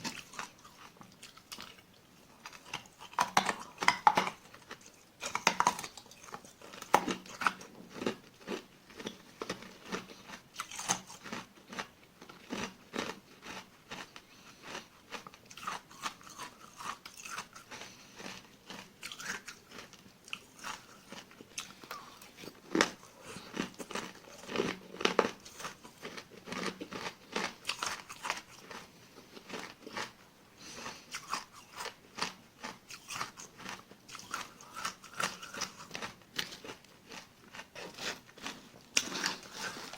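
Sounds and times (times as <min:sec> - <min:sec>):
ice granules crunched and chewed: 0:00.0 - 0:39.9.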